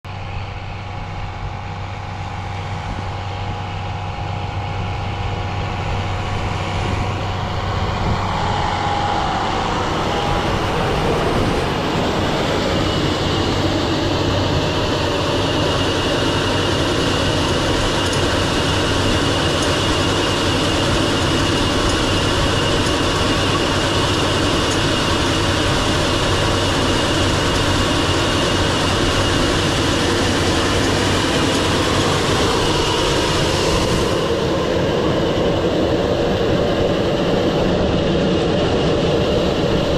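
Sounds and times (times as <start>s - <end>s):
tractor engine running with whine: 0.0s - 39.9s.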